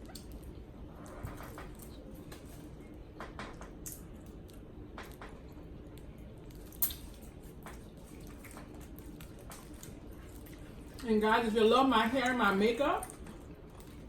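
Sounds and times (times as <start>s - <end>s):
wet chewing and smacking: 0.0s - 11.3s, 12.0s - 14.0s.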